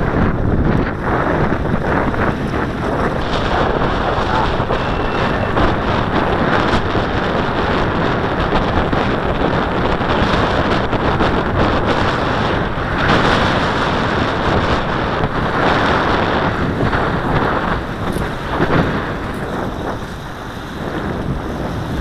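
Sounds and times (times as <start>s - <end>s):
lake water washing against shore: 0.0s - 22.0s
wind buffeting microphone: 0.0s - 22.0s.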